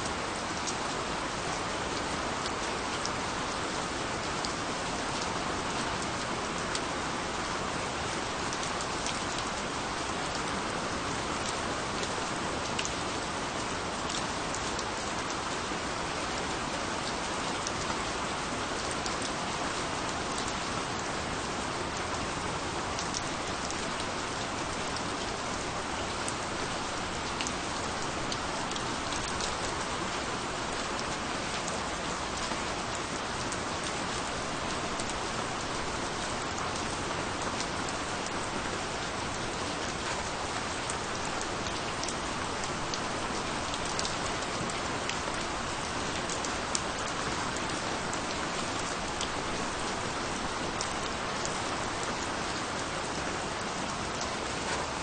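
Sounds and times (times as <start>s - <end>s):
rain on a surface: 0.0s - 55.0s.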